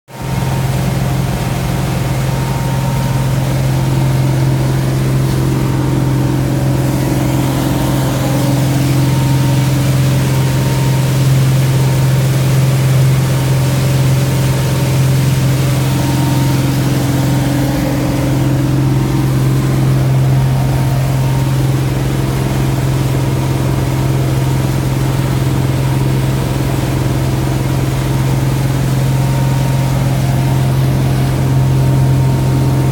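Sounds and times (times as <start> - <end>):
boat engine droning: 0.1 - 32.9
wind and water rushing: 0.2 - 32.9.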